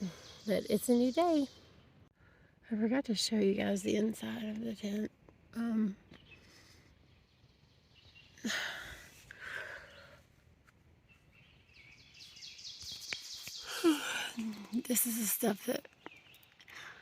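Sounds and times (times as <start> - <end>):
birds chirping: 0.0 - 2.2, 3.1 - 10.3, 11.0 - 17.0.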